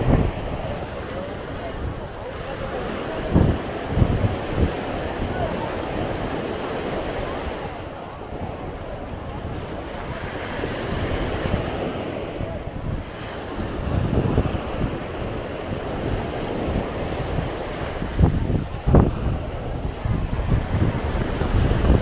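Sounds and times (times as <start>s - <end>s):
sea waves washing on beach: 0.0s - 22.0s
wind buffeting microphone: 0.0s - 22.0s.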